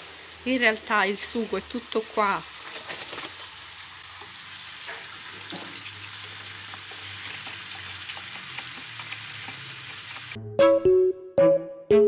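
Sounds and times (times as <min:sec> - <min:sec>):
sauce sizzling in a frying pan: 0:00.0 - 0:10.4.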